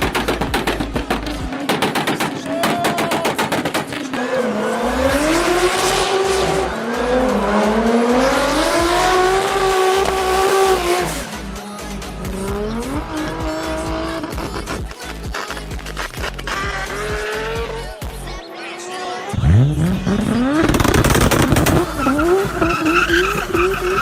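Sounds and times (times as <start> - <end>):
music with heavy bass beat: 0.0 - 4.1, 4.8 - 18.4, 19.4 - 24.0
car engine revving: 3.4 - 14.8, 15.8 - 24.0.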